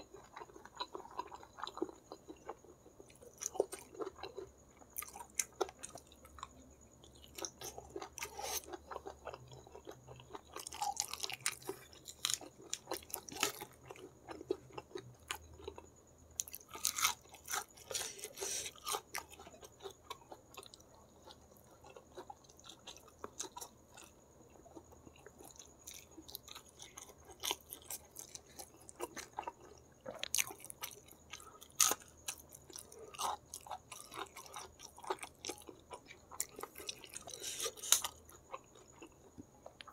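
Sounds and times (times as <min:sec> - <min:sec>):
close chewing and biting: 0:00.1 - 0:39.9
crunchy crackles: 0:00.1 - 0:39.9.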